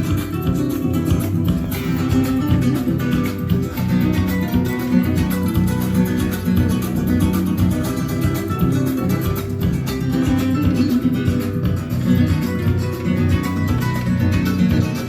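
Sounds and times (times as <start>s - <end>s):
flamenco guitar playing: 0.0s - 15.0s.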